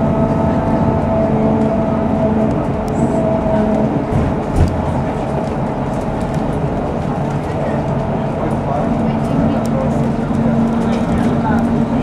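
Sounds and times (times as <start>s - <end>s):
bus engine hum and whine: 0.0s - 12.0s
road noise: 0.0s - 12.0s.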